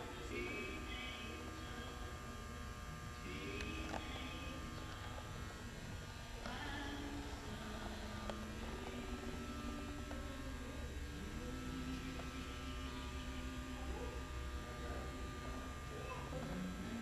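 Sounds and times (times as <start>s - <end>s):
electrical hum and buzz: 0.0s - 17.0s
faint pitched sounds: 0.0s - 17.0s.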